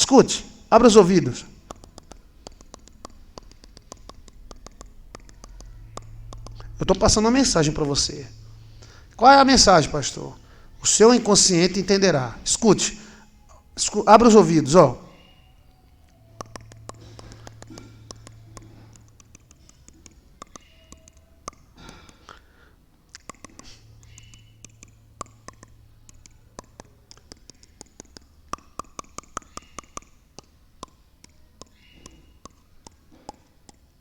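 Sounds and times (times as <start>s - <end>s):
low hum: 0.0s - 21.8s, 23.0s - 29.3s
teeth clicking and grinding: 0.0s - 34.0s.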